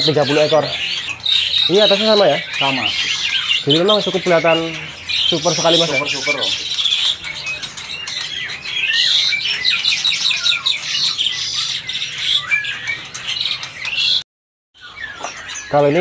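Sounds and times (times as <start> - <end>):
caged birds chirping and squawking: 0.0 - 14.2, 14.8 - 16.0.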